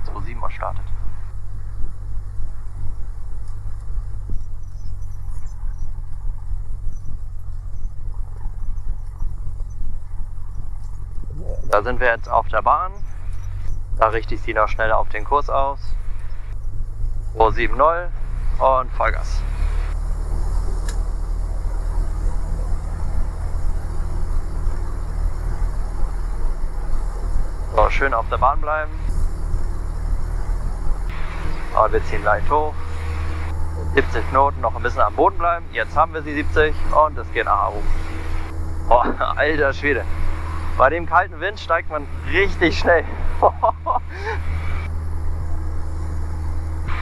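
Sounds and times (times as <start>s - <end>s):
piston aircraft engine droning: 0.0s - 47.0s.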